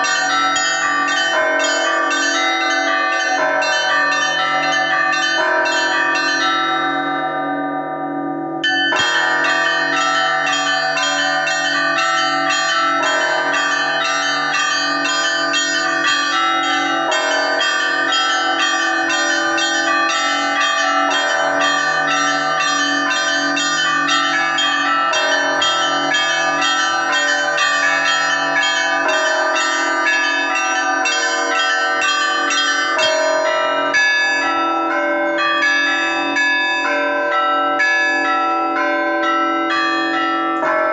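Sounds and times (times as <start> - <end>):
small bells chiming rapidly: 0.0 - 7.2, 8.6 - 40.9
heavier church bells: 0.0 - 40.9.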